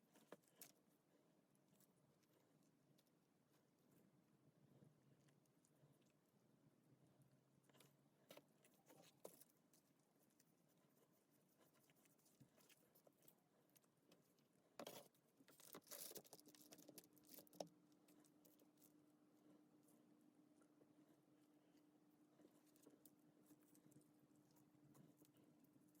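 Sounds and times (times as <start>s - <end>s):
faint clicks and rustles: 0.0s - 26.0s
faint steady hum: 0.0s - 26.0s.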